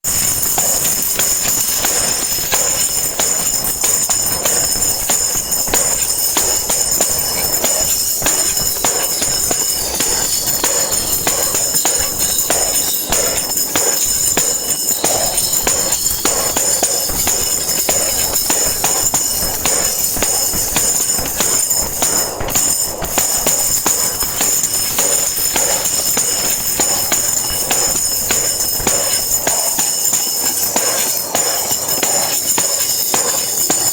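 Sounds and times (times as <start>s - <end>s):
tambourine shaken and struck: 0.0s - 33.9s.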